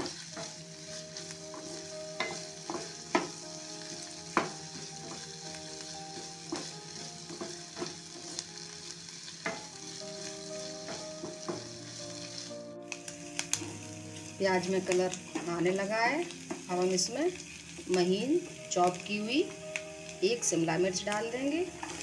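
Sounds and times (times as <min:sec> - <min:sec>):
onion sizzling in ghee: 0:00.0 - 0:22.0.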